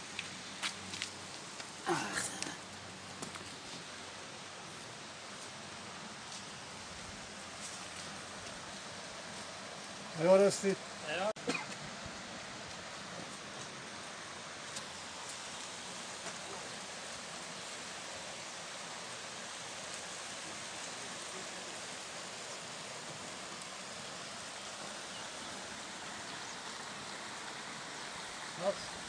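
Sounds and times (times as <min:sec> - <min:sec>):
stream running over stones: 0:00.0 - 0:29.0.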